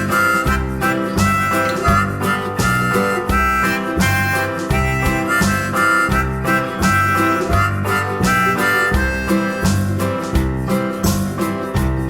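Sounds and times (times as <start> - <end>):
harmonica: 0.0 - 10.5
upbeat country music: 0.0 - 12.0.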